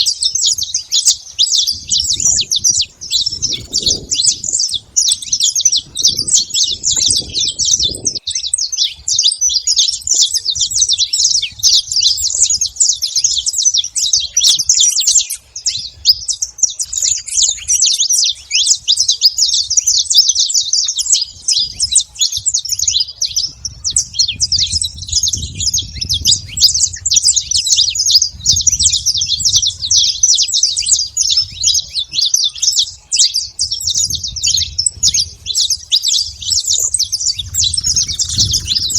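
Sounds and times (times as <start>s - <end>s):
finch singing high chirps: 0.0s - 38.9s.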